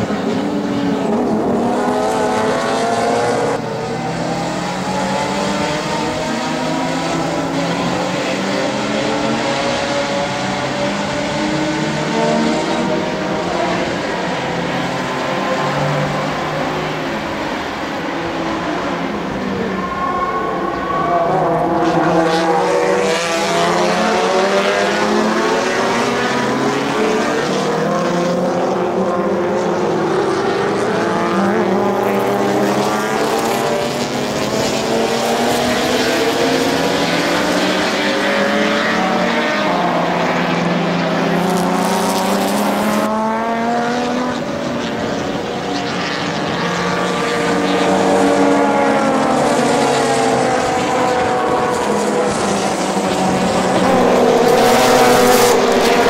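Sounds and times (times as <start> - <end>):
racing car engines: 0.0 - 56.0.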